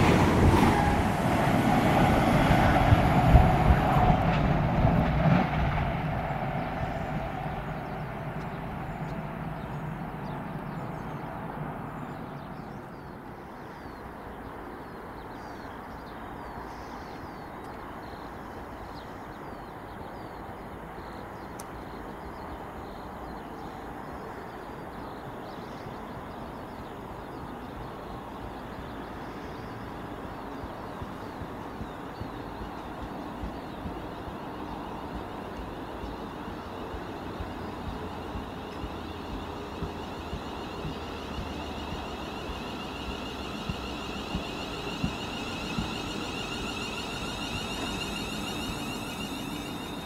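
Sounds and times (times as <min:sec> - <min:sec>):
passing train: 0:00.0 - 0:50.0
steady background noise: 0:00.0 - 0:50.0
small birds chirping: 0:06.8 - 0:50.0.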